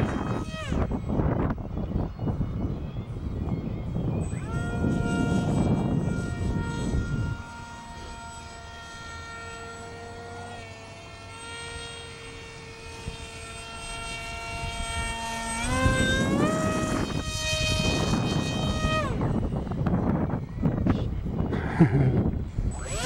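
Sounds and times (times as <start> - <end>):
electric motor and propeller whining: 0.0 - 23.0
wind buffeting microphone: 0.0 - 23.0.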